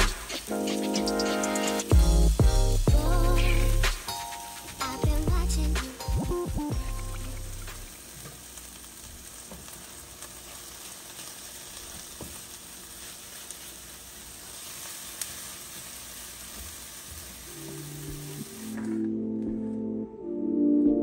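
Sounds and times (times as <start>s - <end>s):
eggs sizzling in a frying pan: 0.0s - 6.1s, 6.7s - 18.8s.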